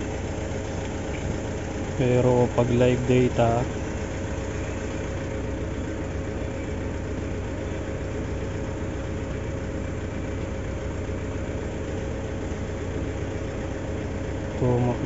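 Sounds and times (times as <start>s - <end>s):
diesel engine idling: 0.0s - 15.0s
faint steady whine: 0.0s - 15.0s.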